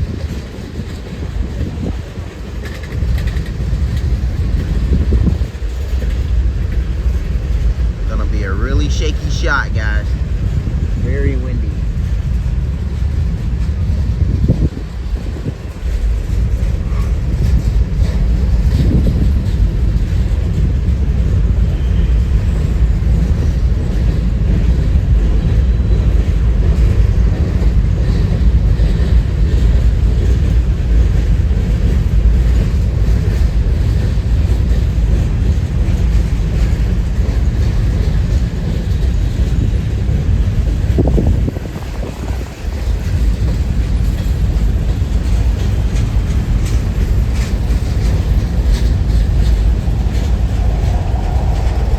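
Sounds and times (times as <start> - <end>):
strong wind buffeting microphone: 0.0 - 51.9.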